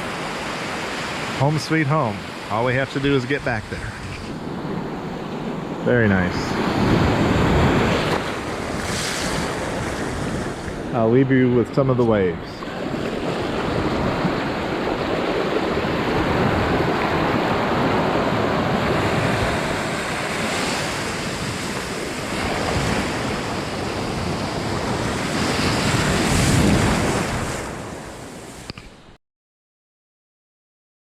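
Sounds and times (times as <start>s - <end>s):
ocean waves breaking: 0.0s - 28.8s
wind on microphone: 2.8s - 28.8s.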